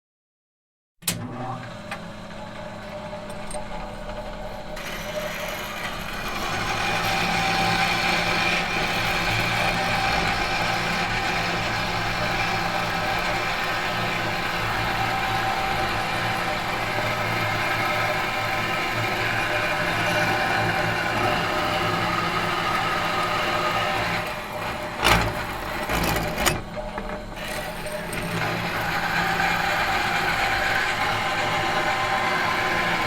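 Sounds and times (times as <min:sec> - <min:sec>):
workshop machine humming: 0:01.0 - 0:33.0
harsh noisy whir: 0:01.1 - 0:33.0.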